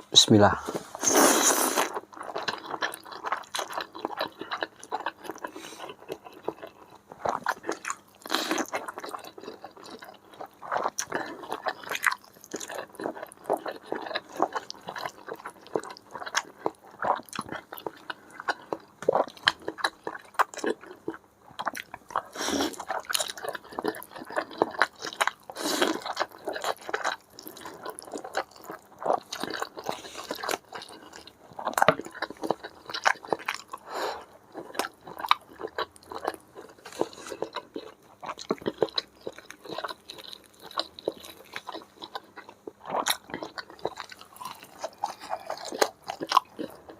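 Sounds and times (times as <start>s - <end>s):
person chewing and slurping: 0.6s - 46.9s.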